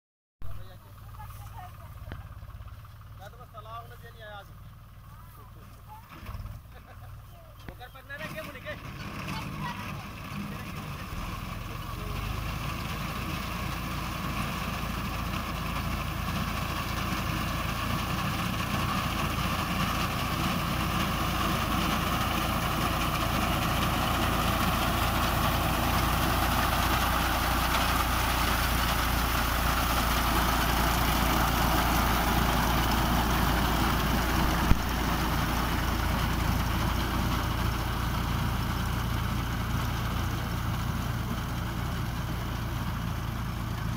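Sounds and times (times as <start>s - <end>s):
tractor diesel engine: 0.4s - 43.9s.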